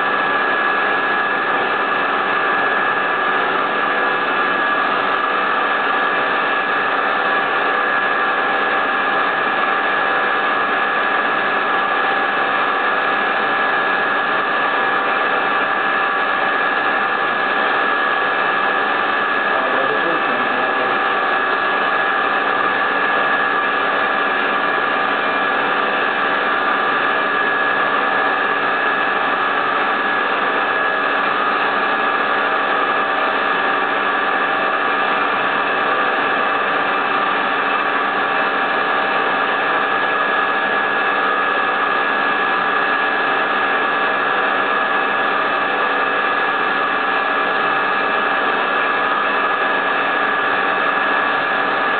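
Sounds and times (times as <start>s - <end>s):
milling spindle whine and hiss: 0.0s - 51.9s.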